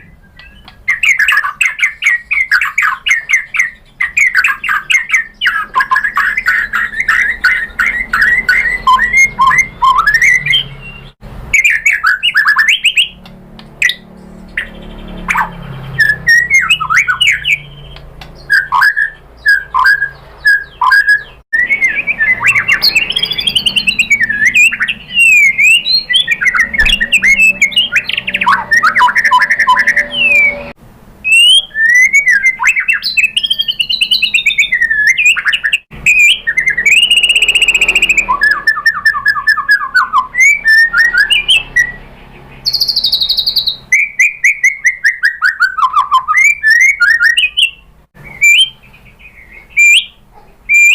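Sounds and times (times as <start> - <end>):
bird singing whistled phrases and trills: 0.0 - 13.2, 13.8 - 42.0, 42.6 - 50.9.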